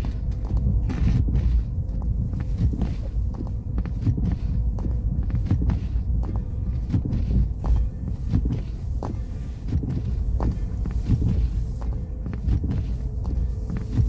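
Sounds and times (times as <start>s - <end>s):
car driving rumble: 0.0s - 14.0s
tyres crunching on snow: 0.0s - 14.0s.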